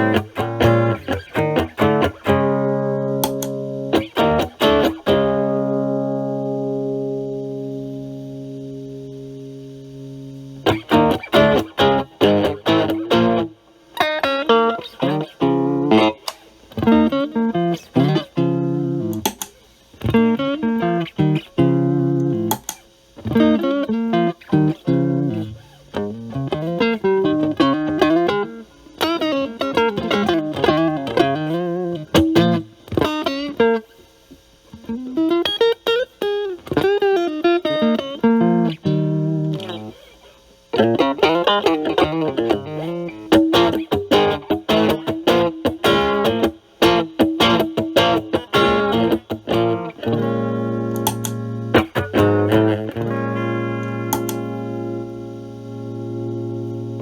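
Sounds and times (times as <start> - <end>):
electric guitar playing: 0.0 - 34.0, 34.7 - 57.0.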